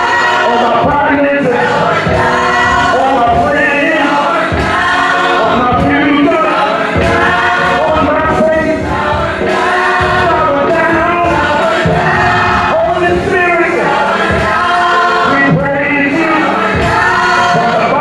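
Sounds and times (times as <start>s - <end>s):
band accompaniment: 0.0s - 18.0s
choir and congregation singing: 0.0s - 18.0s.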